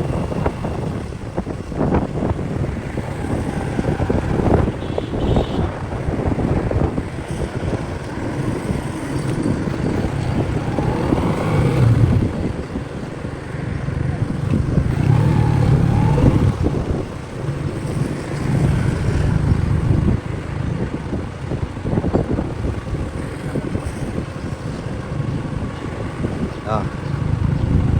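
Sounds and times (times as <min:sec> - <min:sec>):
motorcycle engine rumble: 0:00.0 - 0:27.9
wind buffeting microphone: 0:00.0 - 0:27.9.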